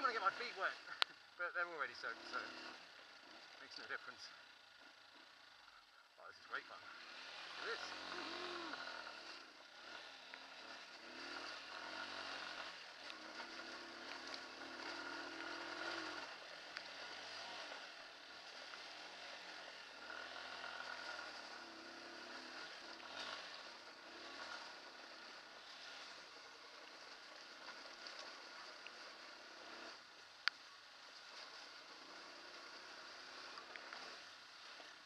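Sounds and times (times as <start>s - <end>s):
motorcycle engine revving: 0.0s - 30.2s, 30.9s - 35.0s.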